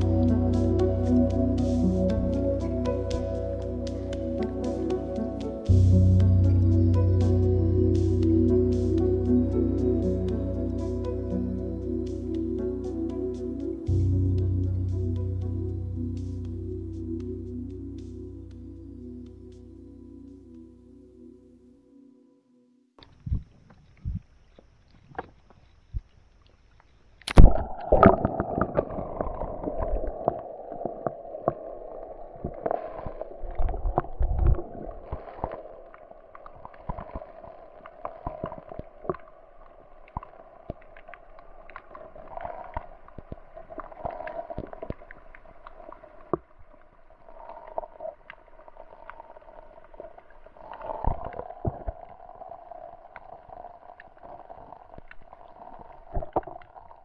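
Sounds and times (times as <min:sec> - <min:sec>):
underwater low hum: 0:00.0 - 0:57.0.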